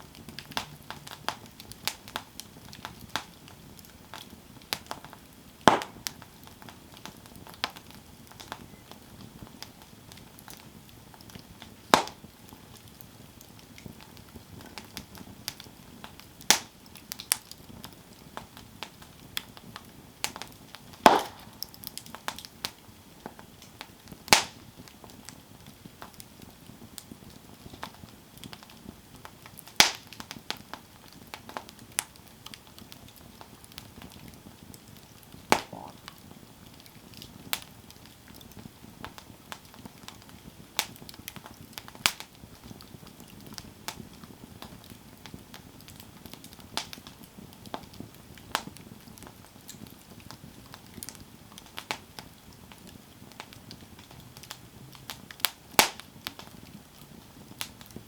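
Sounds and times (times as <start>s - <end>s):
campfire crackling: 0.0s - 58.0s
low steady hiss: 0.0s - 58.0s
sharp fire pops: 0.1s - 58.0s.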